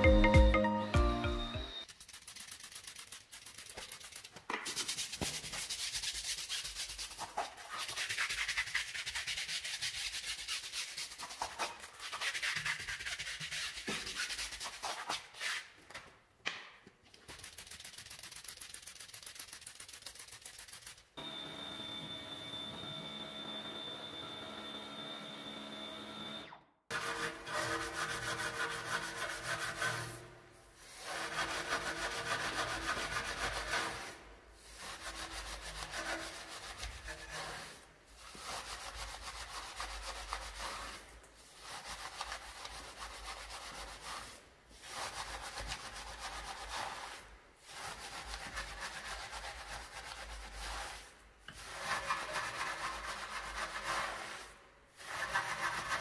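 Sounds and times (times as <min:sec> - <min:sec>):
brush scrubbing wet metal wheel: 0:01.8 - 0:14.9, 0:17.4 - 0:21.1, 0:26.9 - 0:30.2, 0:30.8 - 0:56.0.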